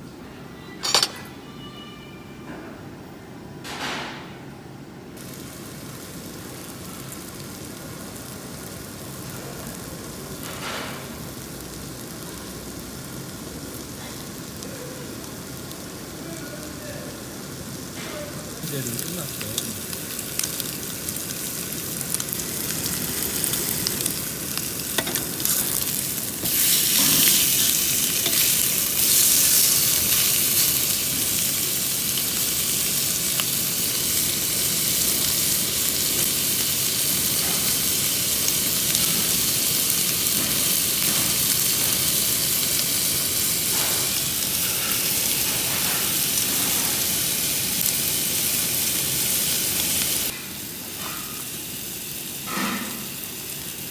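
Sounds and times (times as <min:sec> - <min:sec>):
ribs sizzling on a grill: 0:05.2 - 0:53.9.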